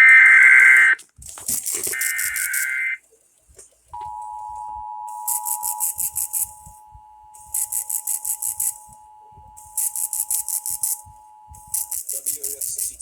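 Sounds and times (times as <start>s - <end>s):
buzzy digital data bursts: 0.0s - 3.0s, 5.2s - 13.0s
faint two-tone hum: 1.8s - 13.0s.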